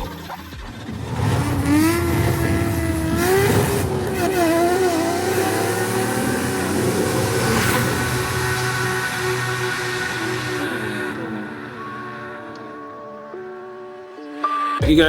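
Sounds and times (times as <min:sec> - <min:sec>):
car engine revving: 0:00.7 - 0:13.5.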